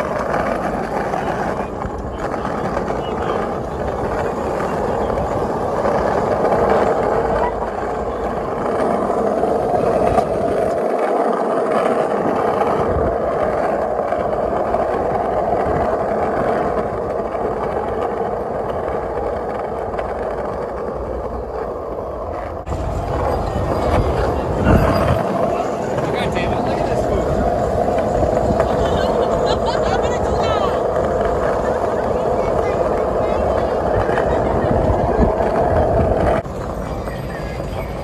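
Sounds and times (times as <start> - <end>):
skate wheels rolling on pavement: 0.0 - 38.0.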